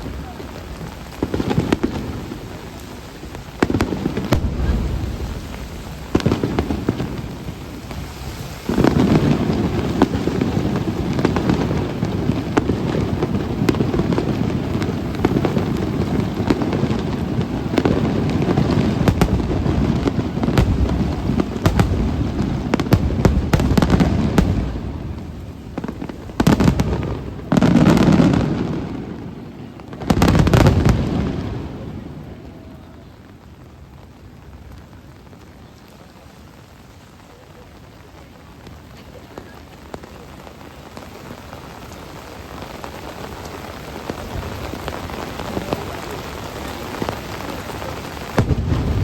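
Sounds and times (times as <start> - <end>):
heavy fireworks booms: 0.0 - 36.2, 38.2 - 49.0.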